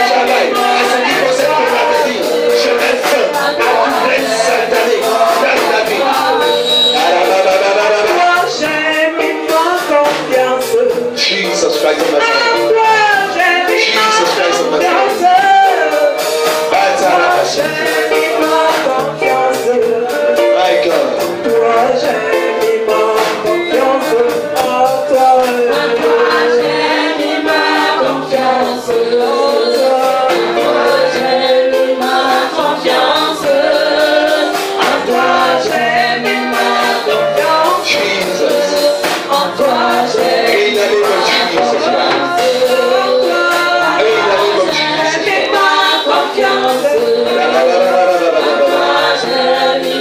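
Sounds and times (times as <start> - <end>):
congregation singing worship song: 0.0 - 50.0
electric bass guitar: 0.0 - 50.0
percussive beat: 0.0 - 50.0.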